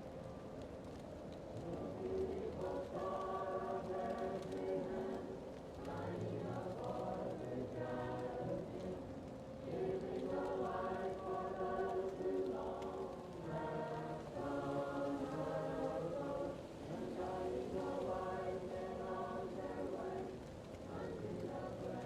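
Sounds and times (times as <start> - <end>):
faint crackling fireplace: 0.0 - 22.0
muffled choir singing: 0.9 - 22.0.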